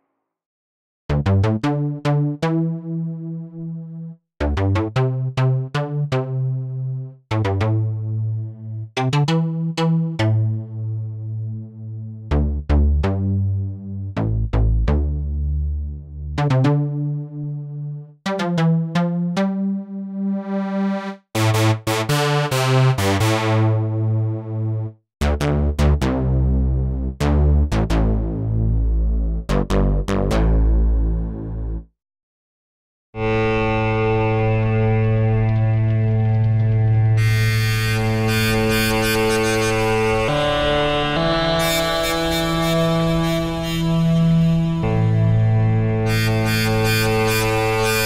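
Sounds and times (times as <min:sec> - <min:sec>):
bass-heavy synth riff: 0:01.1 - 0:31.8, 0:33.2 - 0:48.0.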